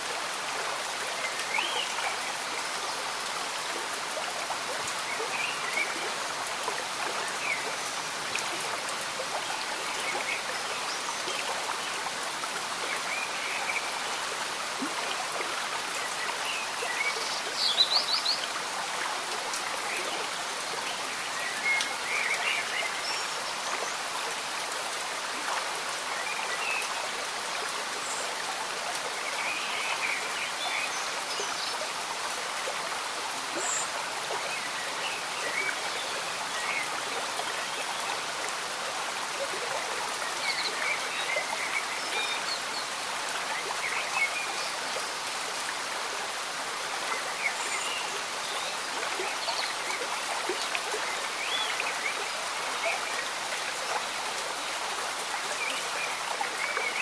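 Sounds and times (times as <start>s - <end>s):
gentle rain falling: 0.0s - 57.0s
stream bubbling and gurgling: 0.0s - 57.0s.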